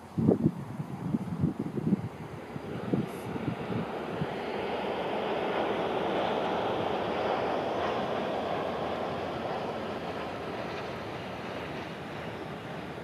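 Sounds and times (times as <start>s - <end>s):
high-speed train rushing past: 0.0s - 13.0s.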